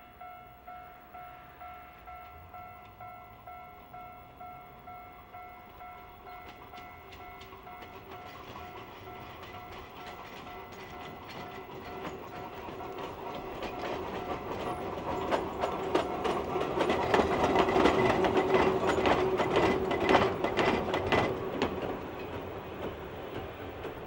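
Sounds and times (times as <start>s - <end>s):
train wheels clicking over rail joints: 2.0s - 24.0s.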